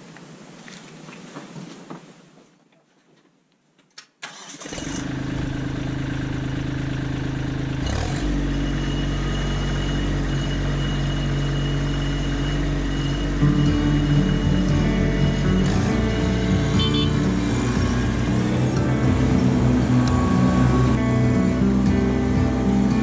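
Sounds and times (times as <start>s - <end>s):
tractor diesel engine running: 4.3s - 23.0s.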